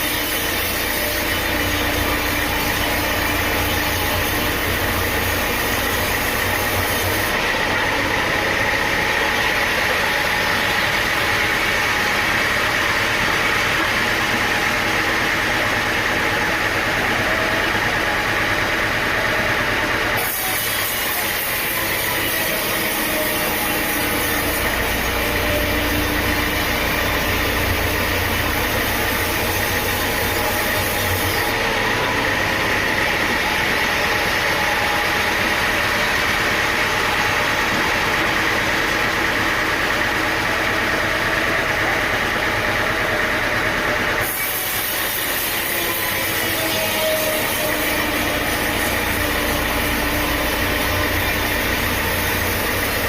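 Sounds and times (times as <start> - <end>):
sawmill machinery running: 0.0 - 53.0.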